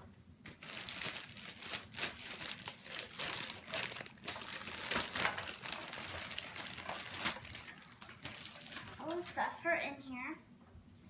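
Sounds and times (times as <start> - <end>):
packing paper crumpling: 0.5 - 9.4.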